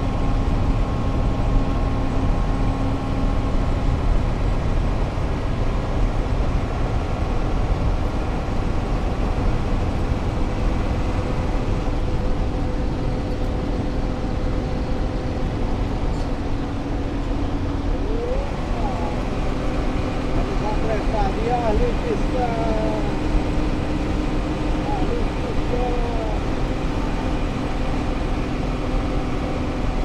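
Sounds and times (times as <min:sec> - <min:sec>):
road rumble: 0:00.0 - 0:30.0
truck diesel engine drone: 0:00.0 - 0:30.0.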